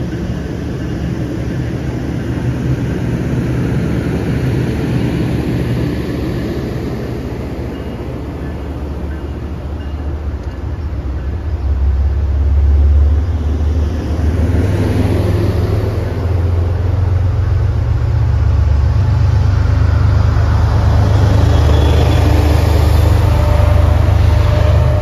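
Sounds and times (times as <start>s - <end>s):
faint locomotive engine hum: 0.0s - 25.0s
train wheels rumbling on rails: 0.0s - 25.0s.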